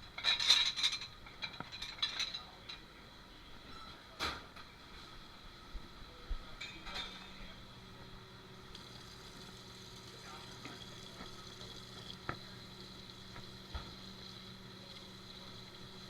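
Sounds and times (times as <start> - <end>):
kitchen equipment hum and hiss: 0.0 - 16.0.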